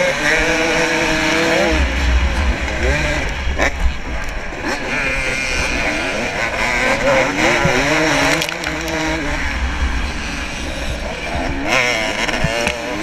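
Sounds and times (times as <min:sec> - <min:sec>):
dirt bike engines revving: 0:00.0 - 0:13.0
wind rumble on microphone: 0:00.0 - 0:13.0.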